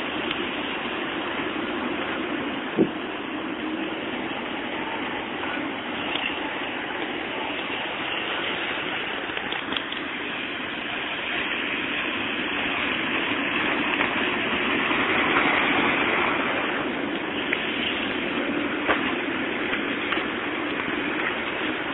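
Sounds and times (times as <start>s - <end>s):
tram rumbling on rails: 0.0s - 21.9s.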